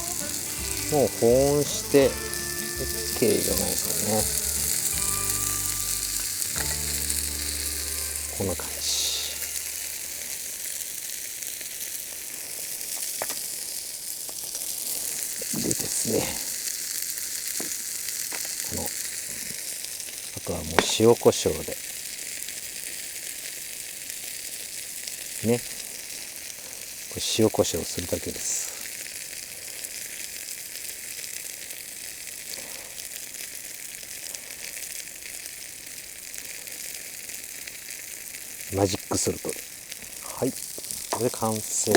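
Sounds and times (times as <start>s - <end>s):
chicken sizzling on a griddle: 0.0s - 41.9s.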